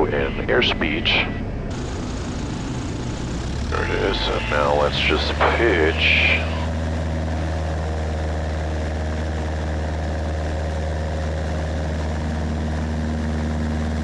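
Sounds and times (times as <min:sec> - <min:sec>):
propeller aircraft engine running: 0:00.0 - 0:14.0.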